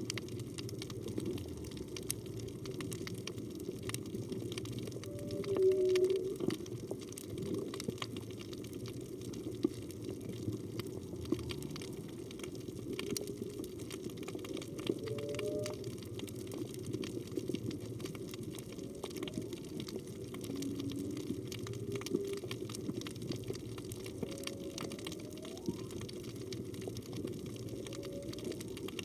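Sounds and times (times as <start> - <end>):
crackle of sharp clicks: 0.0 - 29.0
whale calls underwater: 0.3 - 8.3, 8.9 - 29.0.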